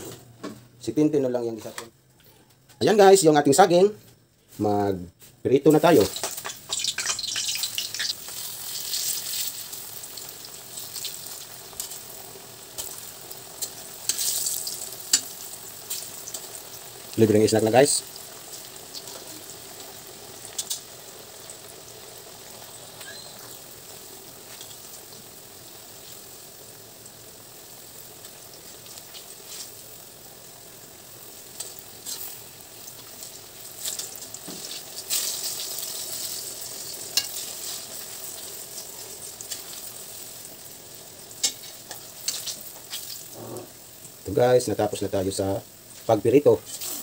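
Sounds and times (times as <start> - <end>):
food sizzling in hot oil: 5.5 - 47.0.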